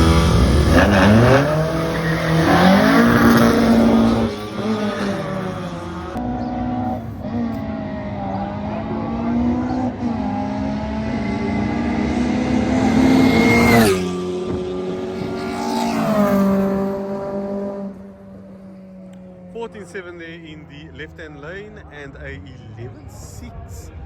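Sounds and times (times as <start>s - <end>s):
drag racing cars accelerating: 0.0s - 24.0s.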